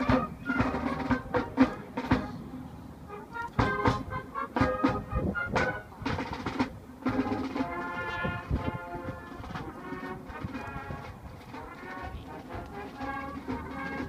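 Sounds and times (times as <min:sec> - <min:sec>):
held brass chords: 0:00.0 - 0:14.0
marching band playing: 0:00.0 - 0:14.0.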